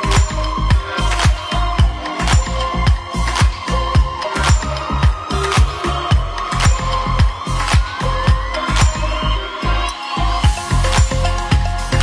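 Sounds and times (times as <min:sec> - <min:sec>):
music with thumping beat: 0:00.0 - 0:09.4, 0:10.4 - 0:12.0
thin tone rising in pitch: 0:00.0 - 0:12.0.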